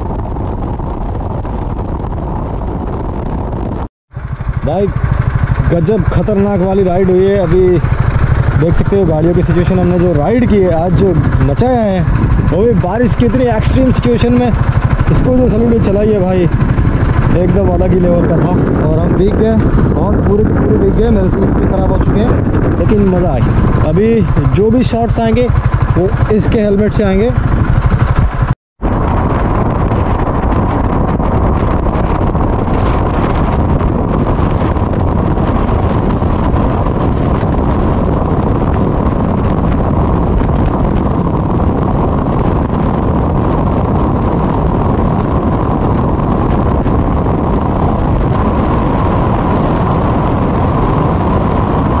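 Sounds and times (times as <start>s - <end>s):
motorcycle engine running: 0.0s - 52.0s
wind rush on microphone: 0.0s - 52.0s.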